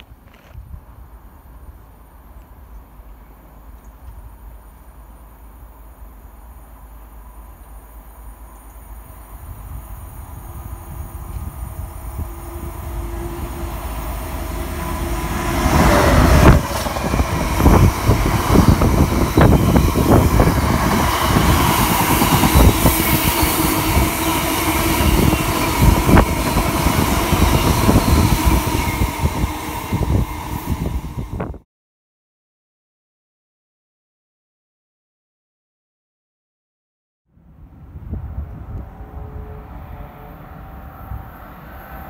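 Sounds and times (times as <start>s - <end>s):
freight train rumbling past: 0.7s - 31.6s, 37.4s - 42.0s.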